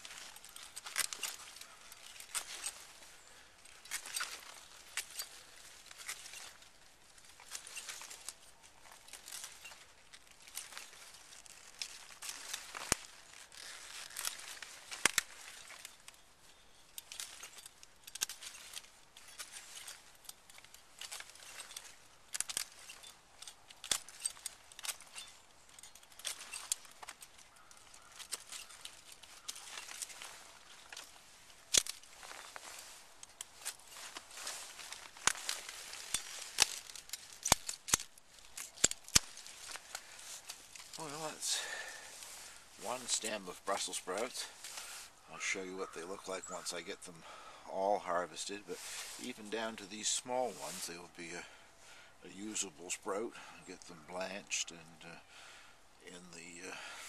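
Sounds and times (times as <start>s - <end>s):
pruning shears snipping: 0.0s - 47.0s, 48.3s - 51.1s
leaves rustling: 0.0s - 57.0s.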